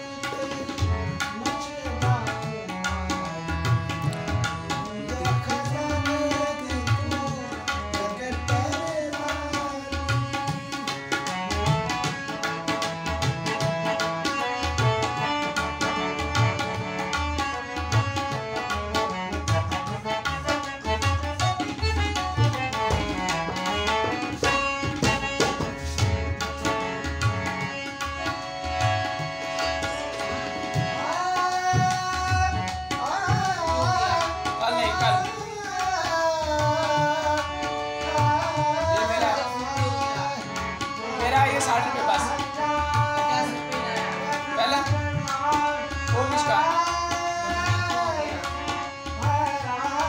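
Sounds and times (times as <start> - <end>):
man singing: 0.0 - 26.7, 30.8 - 50.0
harmonium reedy notes: 0.0 - 50.0
tabla rhythm: 0.0 - 50.0.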